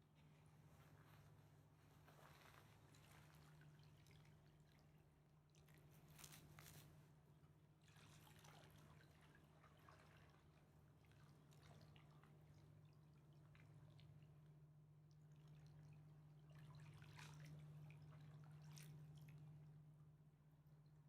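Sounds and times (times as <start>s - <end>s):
river water lapping and dripping: 0.0s - 21.0s.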